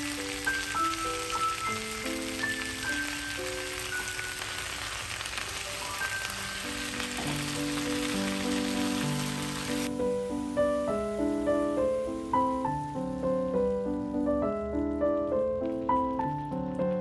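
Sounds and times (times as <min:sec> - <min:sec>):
crackling hiss: 0:00.0 - 0:17.0
slow music of held notes: 0:00.0 - 0:17.0.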